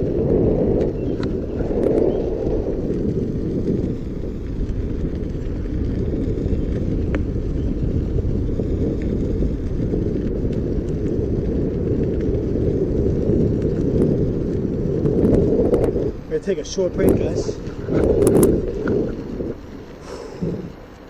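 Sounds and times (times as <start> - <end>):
tyre noise: 0.0 - 21.0
wind on microphone: 0.0 - 21.0.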